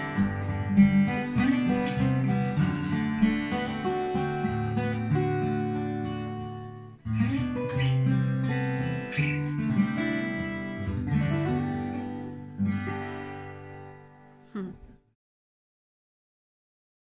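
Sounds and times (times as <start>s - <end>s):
acoustic guitar strumming: 0.0s - 14.4s.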